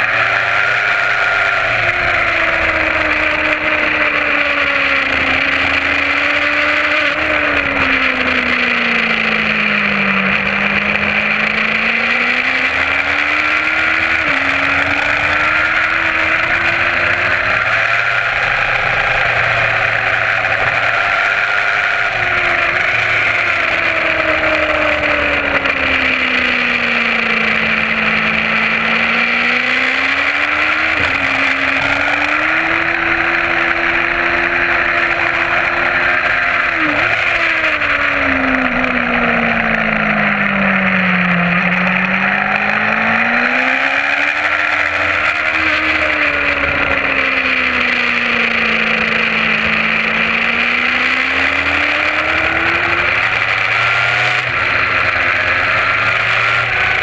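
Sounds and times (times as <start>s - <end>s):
gear changes: 0.0s - 57.0s
motorcycle engine revving: 0.0s - 57.0s
steady rush of noise: 0.0s - 57.0s.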